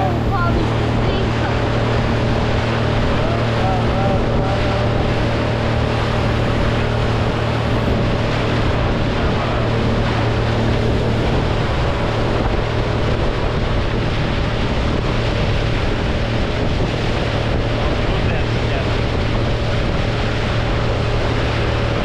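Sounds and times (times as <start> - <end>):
motorboat engine humming: 0.0 - 22.0
water noise: 0.0 - 22.0
wind noise: 0.0 - 22.0.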